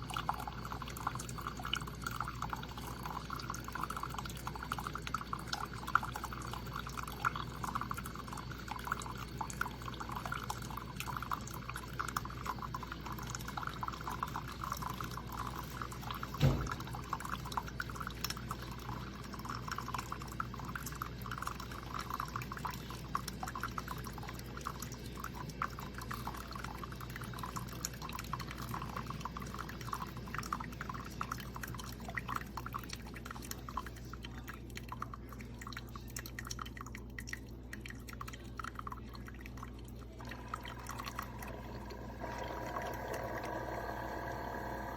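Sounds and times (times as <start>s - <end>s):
liquid pouring into vessel: 0.0s - 44.9s.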